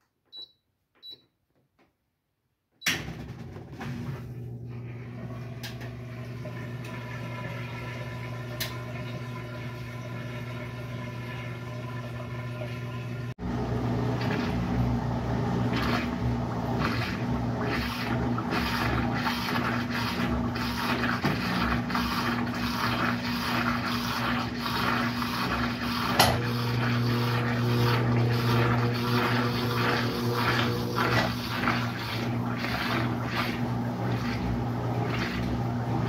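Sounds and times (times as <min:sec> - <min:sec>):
washing machine motor humming: 0:02.8 - 0:36.0.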